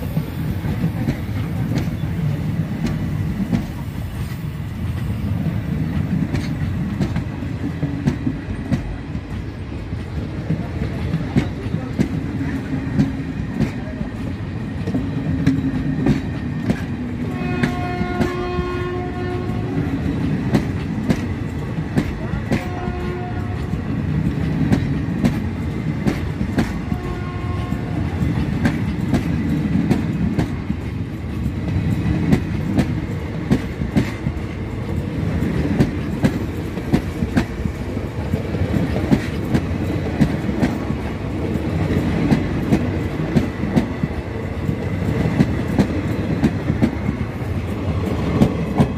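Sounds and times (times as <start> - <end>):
clickety-clack over rail joints: 0.0 - 48.9
wheels rumbling on rails: 0.0 - 48.9.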